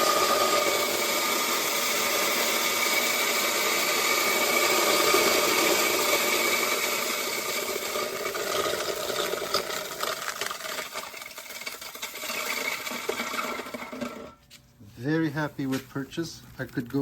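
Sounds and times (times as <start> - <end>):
electric grain mill grinding: 0.0 - 14.4.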